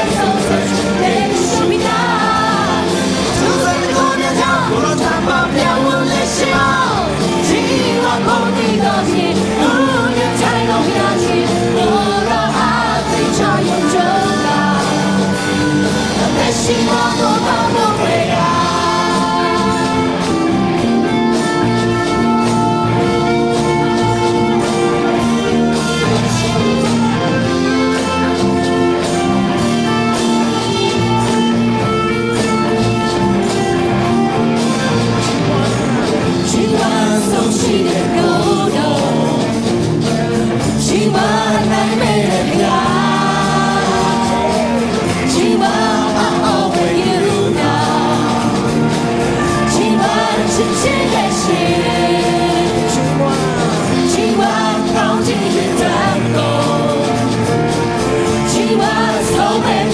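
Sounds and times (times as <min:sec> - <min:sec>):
people singing into microphones: 0:00.0 - 0:31.6, 0:34.5 - 0:59.9
electric guitar and band: 0:00.0 - 0:59.9.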